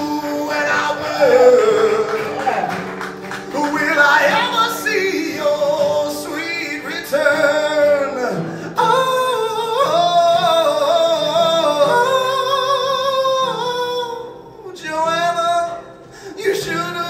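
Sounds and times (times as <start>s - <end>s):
man singing: 0.0s - 2.8s, 3.4s - 17.0s
acoustic guitar: 0.0s - 17.0s.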